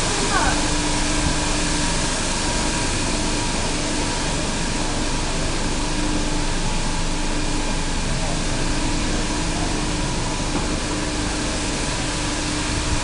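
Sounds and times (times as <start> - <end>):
mechanical hum and hiss: 0.0 - 13.0.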